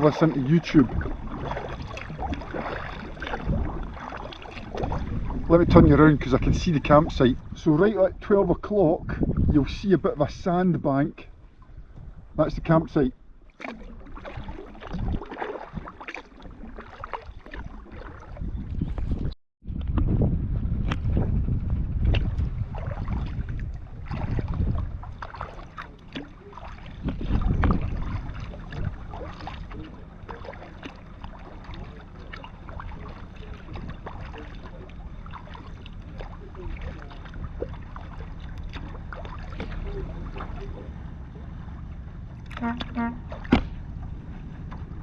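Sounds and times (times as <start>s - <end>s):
water splashing against kayak: 0.0s - 8.4s, 11.3s - 45.0s
wind buffeting microphone: 0.0s - 45.0s.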